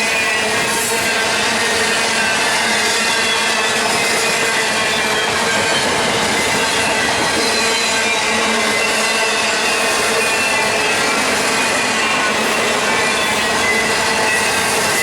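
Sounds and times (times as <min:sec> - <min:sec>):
high wheel squeal: 0:00.0 - 0:15.0
train wheels rumbling on rails: 0:00.0 - 0:15.0.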